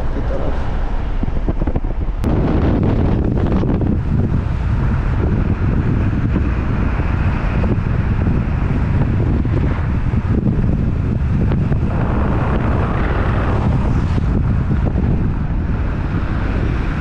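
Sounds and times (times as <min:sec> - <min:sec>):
car road and engine noise: 0:00.0 - 0:17.0
wind buffeting microphone: 0:00.0 - 0:17.0.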